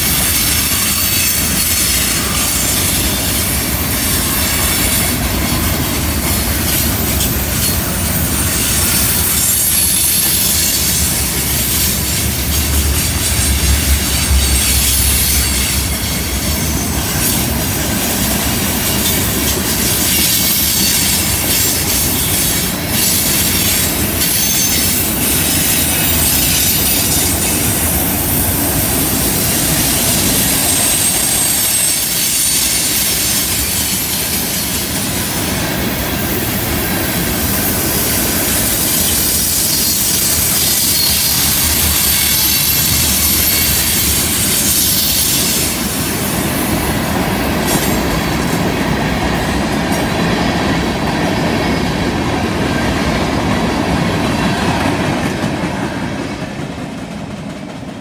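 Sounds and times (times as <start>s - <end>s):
high wheel squeal: 0.0s - 46.8s
freight train wheels rumbling: 0.0s - 58.0s.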